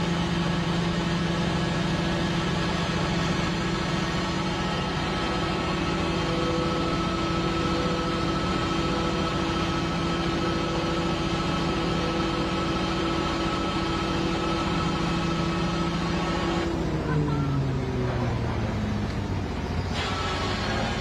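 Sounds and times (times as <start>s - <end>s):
harvester engine drone: 0.0s - 21.0s.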